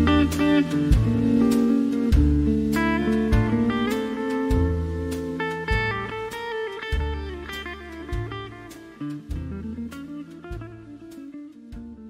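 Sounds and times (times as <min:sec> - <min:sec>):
jazzy guitar music with drums: 0:00.0 - 0:12.0.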